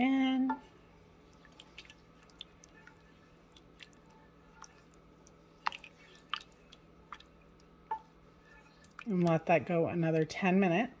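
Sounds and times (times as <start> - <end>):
wet squishing of stirred stew: 0.9 - 10.4.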